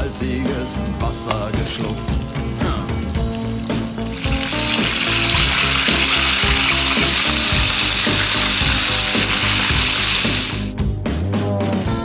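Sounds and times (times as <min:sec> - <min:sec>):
chicken deep-frying in oil: 0:00.0 - 0:10.7.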